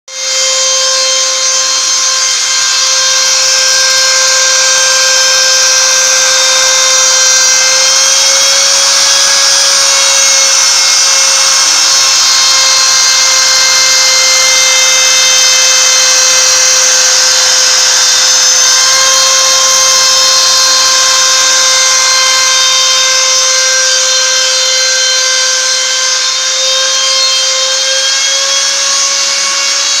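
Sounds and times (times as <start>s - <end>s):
router spindle whining: 0.1s - 30.0s.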